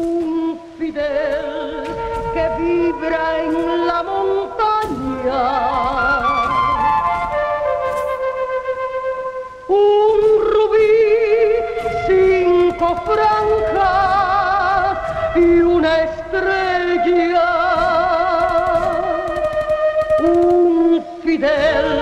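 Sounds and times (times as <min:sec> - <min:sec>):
melody with wide vibrato: 0:00.0 - 0:22.0.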